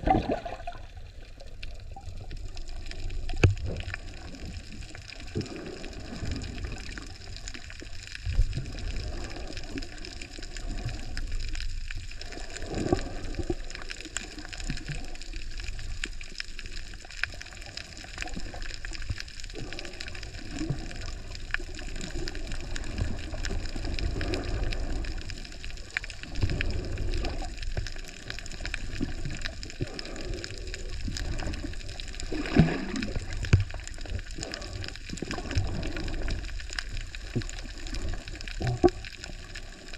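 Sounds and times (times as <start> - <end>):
muffled water sloshing and gurgling: 0.0 - 39.9.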